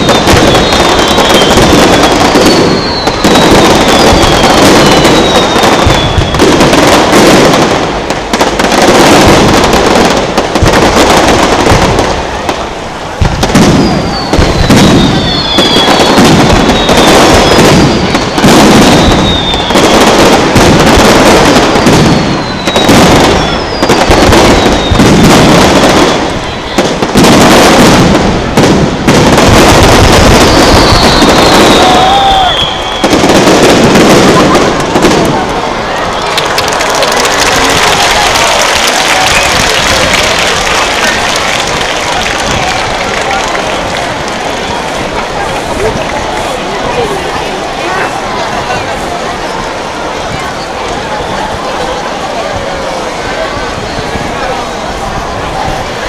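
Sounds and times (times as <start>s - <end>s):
falling firework whistles: 0.0s - 45.2s
fireworks bursting and crackling: 0.0s - 56.0s.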